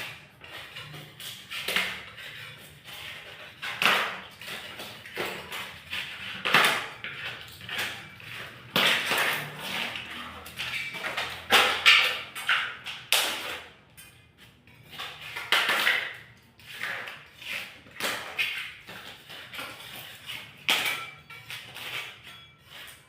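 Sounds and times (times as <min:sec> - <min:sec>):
hand tool scraping a wall: 0:00.0 - 0:23.0.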